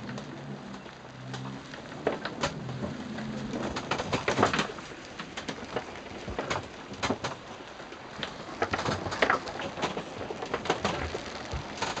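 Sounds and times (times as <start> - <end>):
rain and spray hitting window: 0.0 - 12.0.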